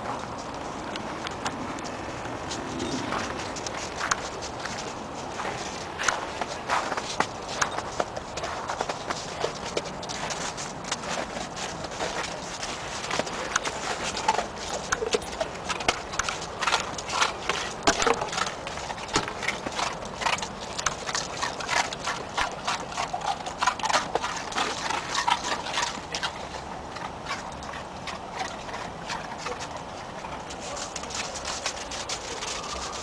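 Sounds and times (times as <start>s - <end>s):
dogs crunching snow: 0.0s - 33.0s.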